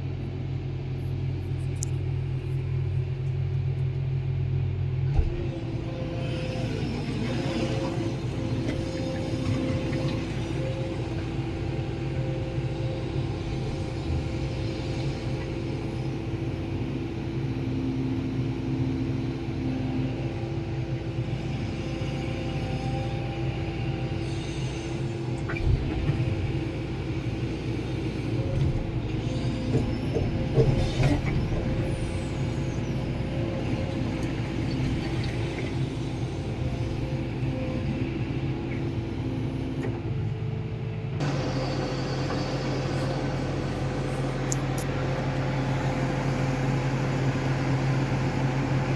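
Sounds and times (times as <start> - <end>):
heavy diesel machinery running: 0.0 - 48.9.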